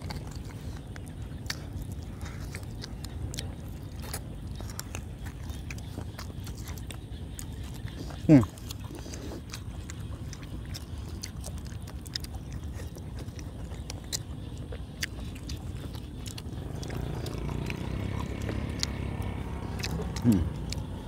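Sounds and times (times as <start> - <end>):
people chewing: 0.0 - 21.0.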